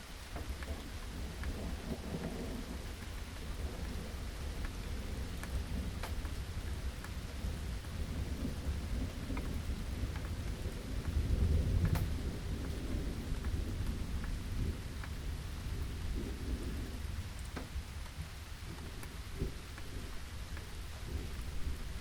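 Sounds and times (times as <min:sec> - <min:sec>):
low rumble of thunder: 0:00.0 - 0:22.0
raindrops ticking: 0:00.0 - 0:22.0
steady rain: 0:00.0 - 0:22.0.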